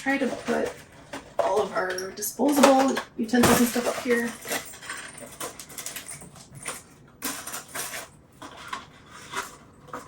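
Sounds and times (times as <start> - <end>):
kitchen items clicking and clattering: 0.0 - 10.0.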